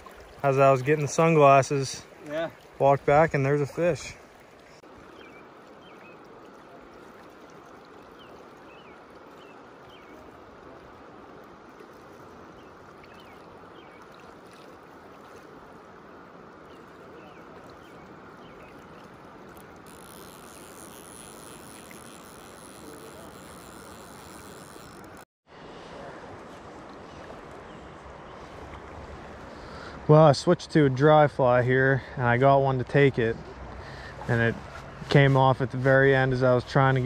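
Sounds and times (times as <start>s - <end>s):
creek water flowing: 0.0s - 37.0s.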